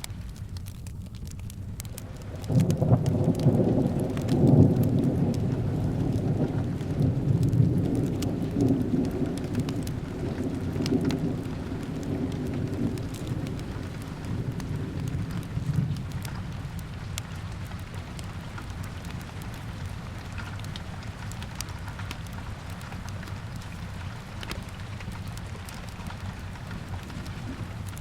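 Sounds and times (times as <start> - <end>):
steady rain: 0.0 - 28.0
thunder rumbling: 0.0 - 28.0
wood fire crackling: 0.0 - 28.0.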